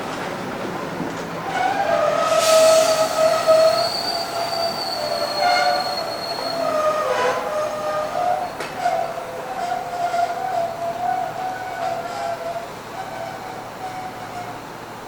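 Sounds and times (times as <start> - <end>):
train running noise: 0.0 - 15.0
train wheels squealing on rails: 1.4 - 15.0.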